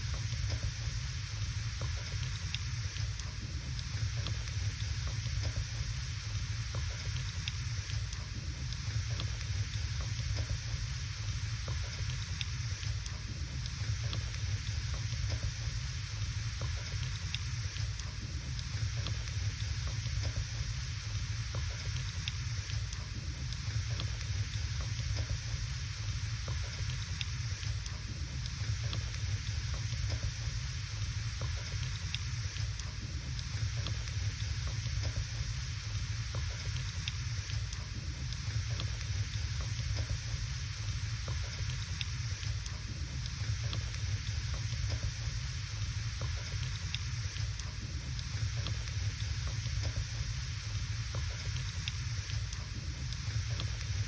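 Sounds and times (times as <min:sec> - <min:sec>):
fire hissing: 0:00.0 - 0:54.0
fireplace logs crackling and popping: 0:01.8 - 0:54.0.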